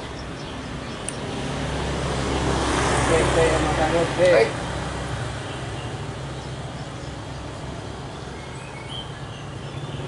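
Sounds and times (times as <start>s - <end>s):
town traffic hum: 0.0s - 10.0s.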